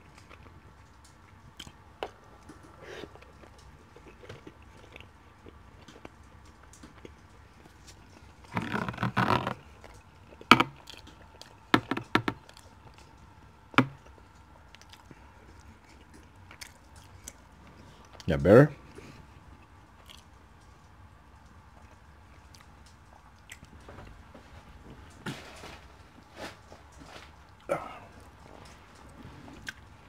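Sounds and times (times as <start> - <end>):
quiet chewing: 0.0 - 30.0.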